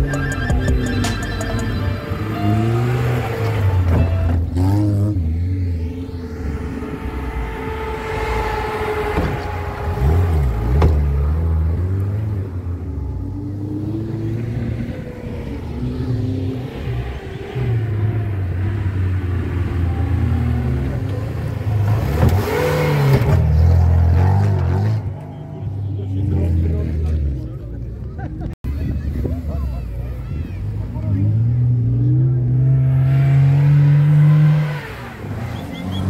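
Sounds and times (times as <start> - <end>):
racing vehicle engines revving: 0.0 - 36.0.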